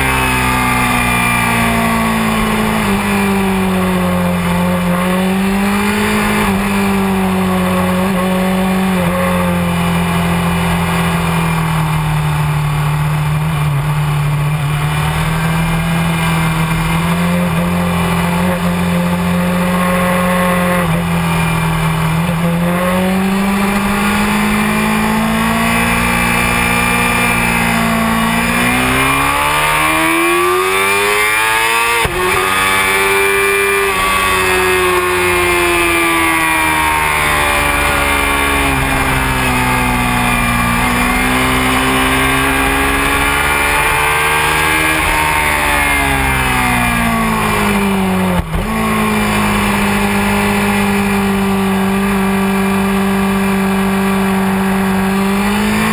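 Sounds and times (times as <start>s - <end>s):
sport bike engine revving: 0.0s - 55.9s.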